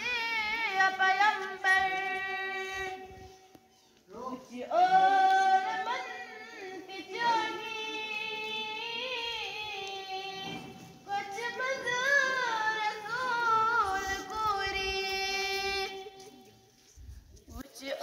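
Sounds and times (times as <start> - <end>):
person singing unaccompanied: 0.0 - 3.2, 4.1 - 16.4.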